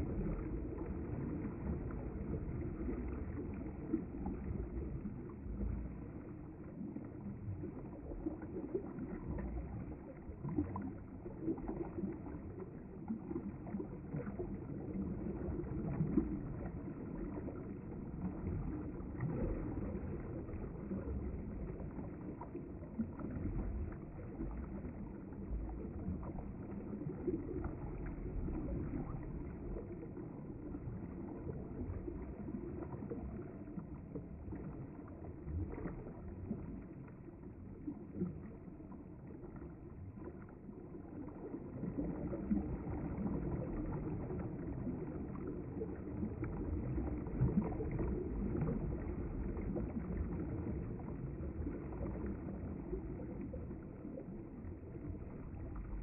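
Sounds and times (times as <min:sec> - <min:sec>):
water splashes and gurgles: 0:00.0 - 0:56.0.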